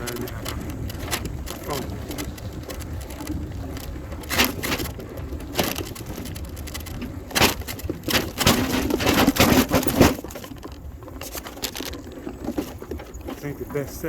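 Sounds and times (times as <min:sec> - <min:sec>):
bicycle rattling over bumps: 0:00.0 - 0:14.0.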